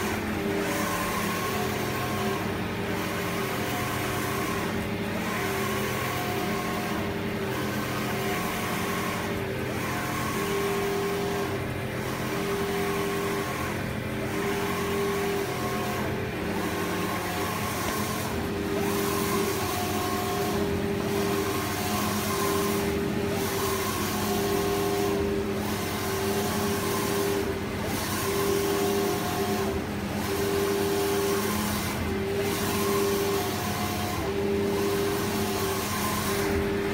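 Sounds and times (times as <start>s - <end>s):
printer carriage motor whine: 0.0s - 36.9s.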